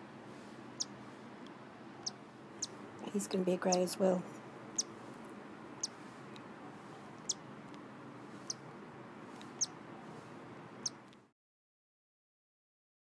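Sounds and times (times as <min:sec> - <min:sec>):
faint background hiss: 0:00.0 - 0:11.3.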